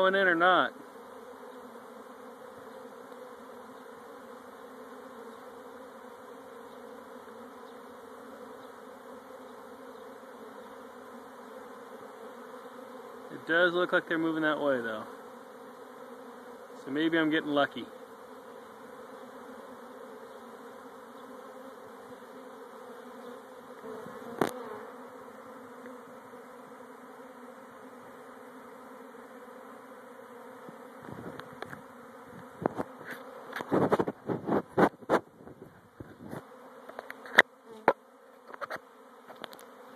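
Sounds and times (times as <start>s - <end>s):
honeybee swarm buzzing: 0.0s - 39.9s.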